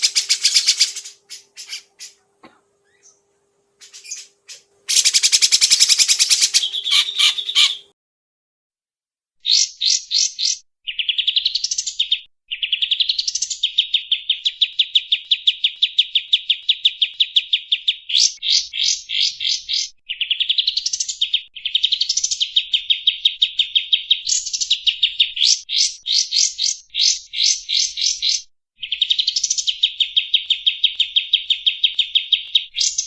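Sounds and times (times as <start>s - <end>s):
songbird singing and trilling: 0.0s - 2.2s, 3.8s - 7.9s, 9.4s - 33.0s.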